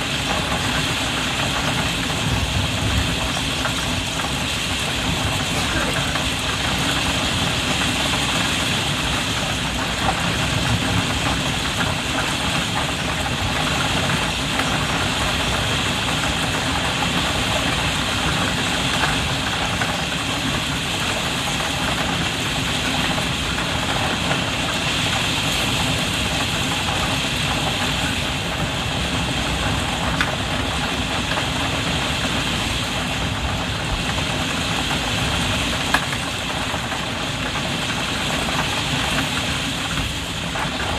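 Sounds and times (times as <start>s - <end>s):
heavy rain on a skylight: 0.0s - 40.9s.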